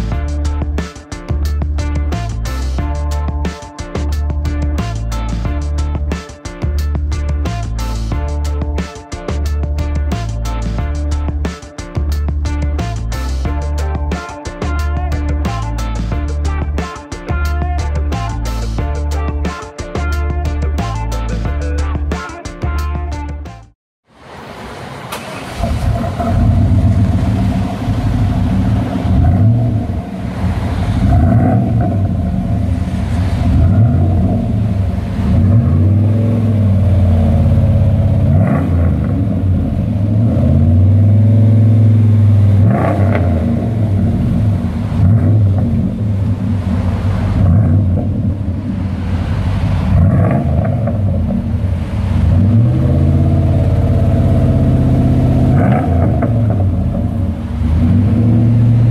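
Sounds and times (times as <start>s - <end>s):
truck engine idling and revving: 0.0s - 58.9s.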